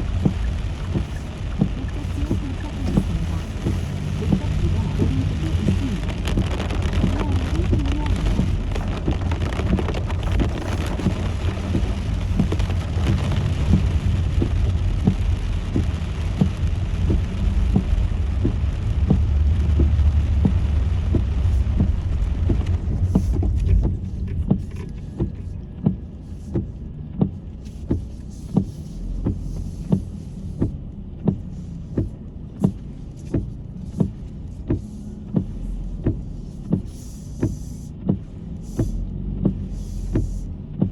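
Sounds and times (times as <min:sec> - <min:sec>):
road and engine rumble: 0:00.0 - 0:40.9
turn signal ticking: 0:00.0 - 0:40.9.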